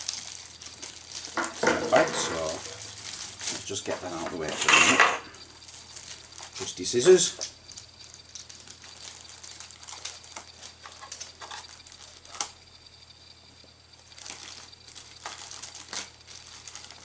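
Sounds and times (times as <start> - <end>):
plastic bag rustling: 0.0 - 12.4, 14.2 - 17.0.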